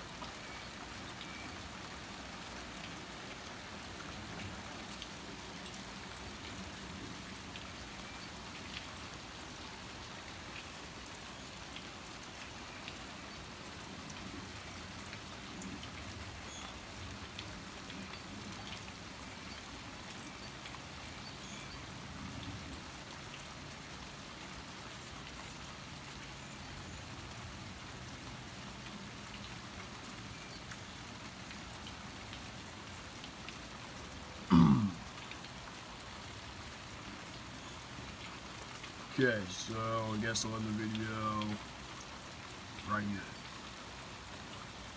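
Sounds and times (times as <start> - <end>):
raindrops ticking on a surface: 0.0 - 44.9
steady rain falling: 0.0 - 44.9.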